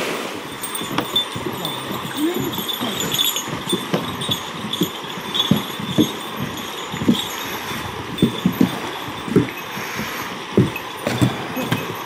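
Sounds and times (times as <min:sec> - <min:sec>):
footsteps on wooden boardwalk: 0:00.4 - 0:12.0.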